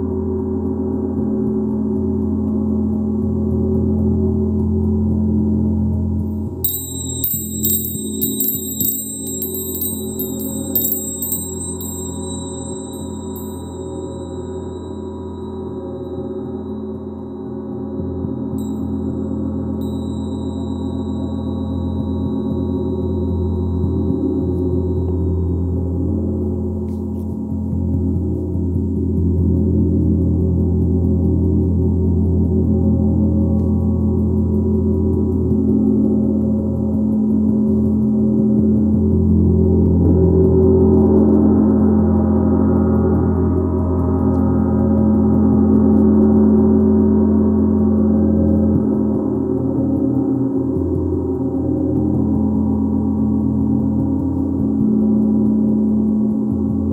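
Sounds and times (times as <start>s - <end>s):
gong played continuously: 0.0s - 56.9s.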